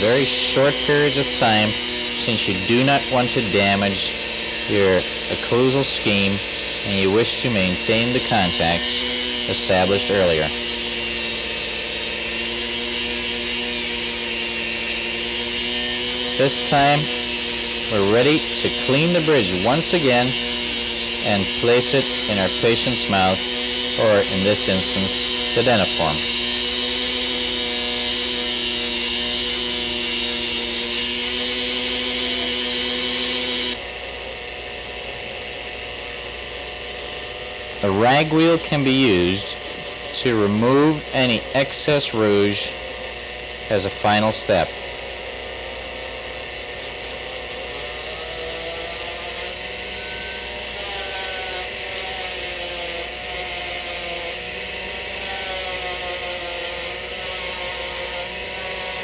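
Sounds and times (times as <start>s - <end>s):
dental handpiece motor whine: 0.0s - 59.0s.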